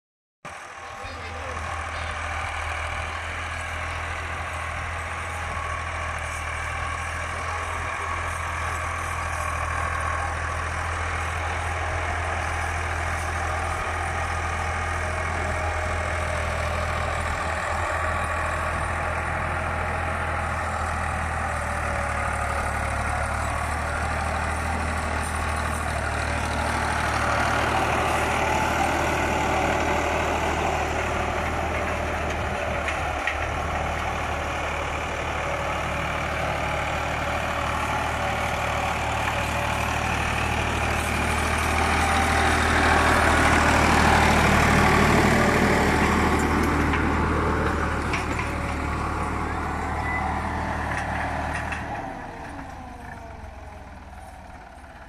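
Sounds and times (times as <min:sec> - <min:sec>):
tractor diesel engine running: 0:00.5 - 0:55.0.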